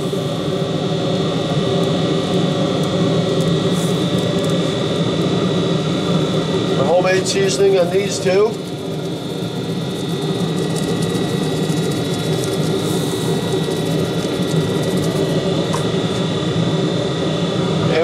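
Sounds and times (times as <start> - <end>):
mechanical drone with high whine: 0.0 - 18.0.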